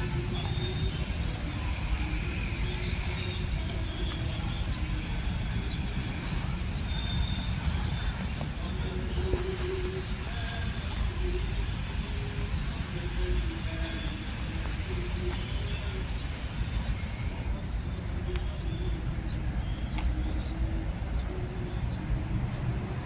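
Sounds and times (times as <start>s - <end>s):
cars passing: 0.0s - 23.0s
road traffic rumbling: 0.0s - 23.0s.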